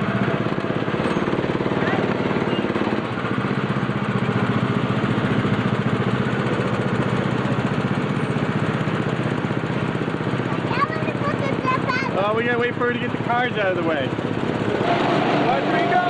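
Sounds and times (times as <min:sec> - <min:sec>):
small gasoline engine puttering: 0:00.0 - 0:16.0.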